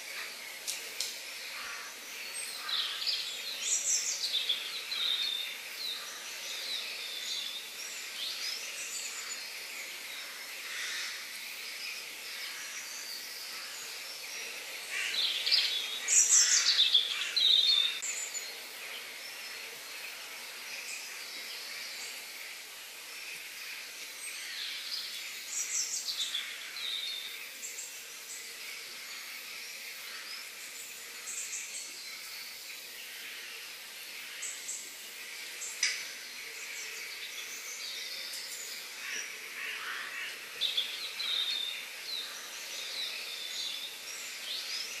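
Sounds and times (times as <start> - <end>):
insect hiss: 0.0 - 45.0.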